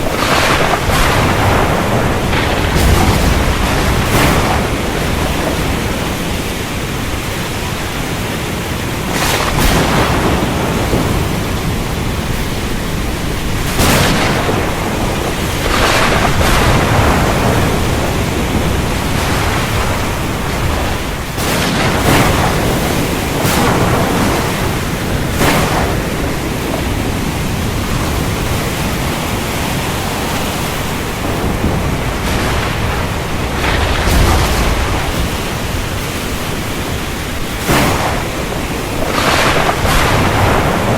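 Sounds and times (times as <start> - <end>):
heavy rain hissing: 0.0 - 40.9
thunder rumbling: 0.0 - 40.9.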